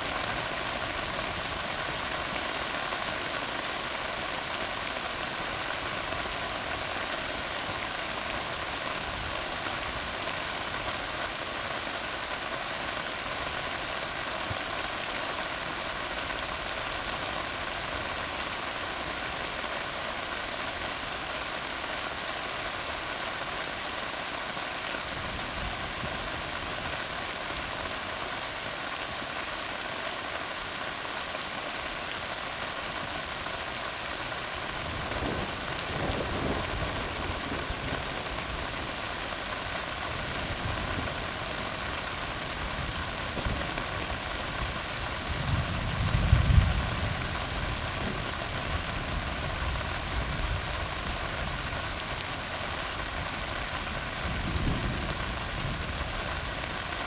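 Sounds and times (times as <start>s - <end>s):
rain falling on road: 0.0s - 57.0s.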